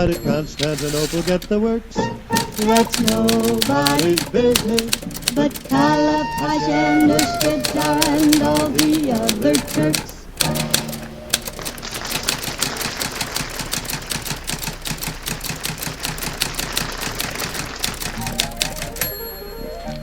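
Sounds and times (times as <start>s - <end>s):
typewriter keys clattering: 0.0s - 1.6s, 2.3s - 19.2s.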